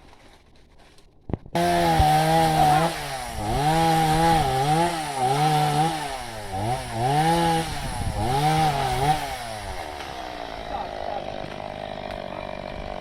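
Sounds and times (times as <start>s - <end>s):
chainsaw cutting wood: 1.5s - 13.0s.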